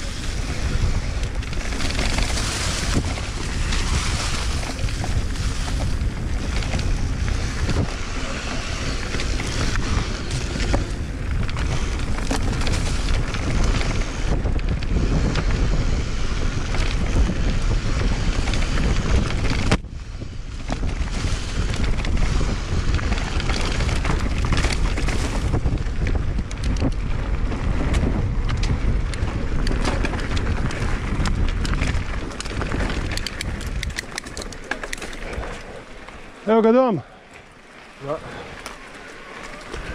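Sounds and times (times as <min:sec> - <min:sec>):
bike clicks and rattles: 0:00.0 - 0:39.9
bike tyres rumbling on dirt: 0:00.0 - 0:39.9
wind buffeting microphone: 0:00.0 - 0:39.9.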